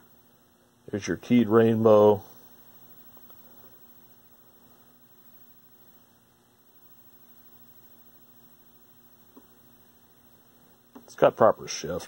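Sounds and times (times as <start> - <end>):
faint mains hum: 0.0 - 12.0
low hiss: 0.0 - 12.0.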